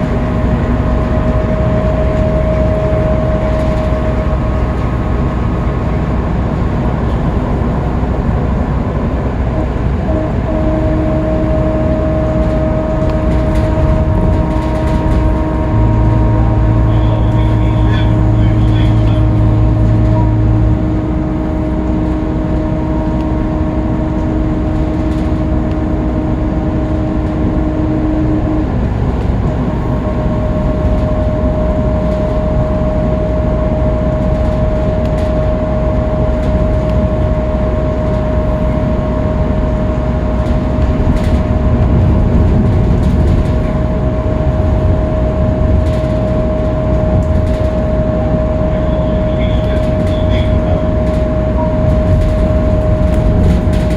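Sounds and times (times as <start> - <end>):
bus engine and drivetrain rumble: 0.0 - 53.9
high whine: 0.0 - 53.9
low hum: 0.0 - 53.9
lower tone: 0.0 - 53.9
road noise: 0.0 - 53.9.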